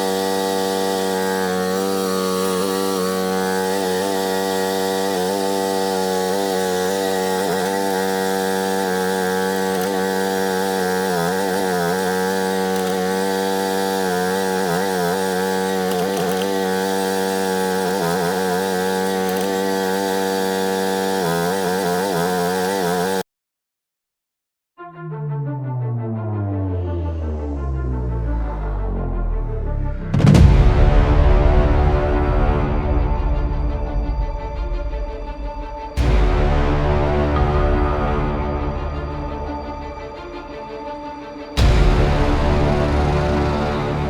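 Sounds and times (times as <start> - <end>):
engine running at high speed: 0.0 - 23.2, 25.7 - 44.0.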